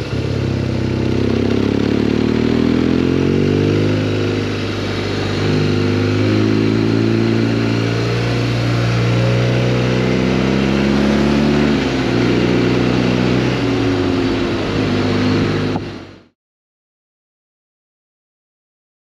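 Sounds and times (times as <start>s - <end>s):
motorcycle engine running: 0.0s - 16.3s
road noise: 0.0s - 16.4s.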